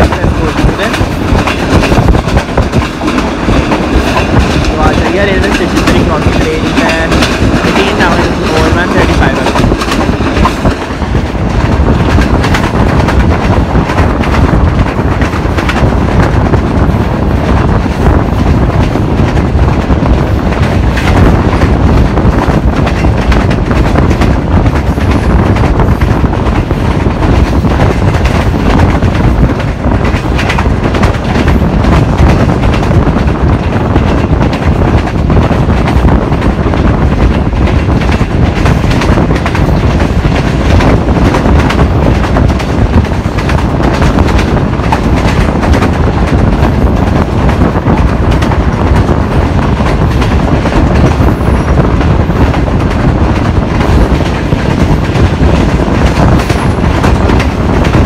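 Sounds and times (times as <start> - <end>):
train coach rumbling: 0.0 - 58.0
train wheels clattering over track: 0.0 - 58.0.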